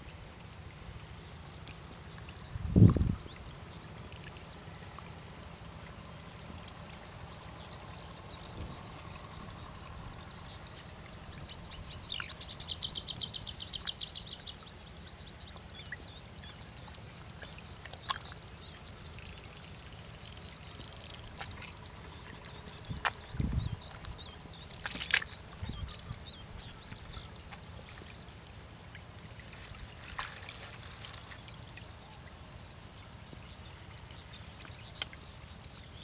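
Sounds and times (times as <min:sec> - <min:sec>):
birds singing trills: 0:01.1 - 0:36.0.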